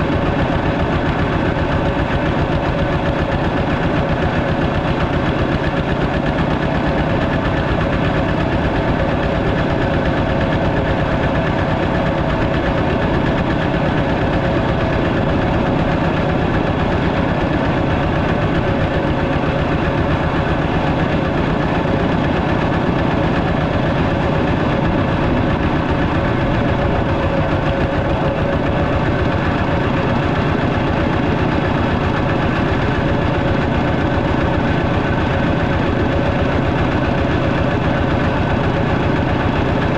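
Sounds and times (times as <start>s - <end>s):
walking tractor engine running: 0.0s - 39.9s.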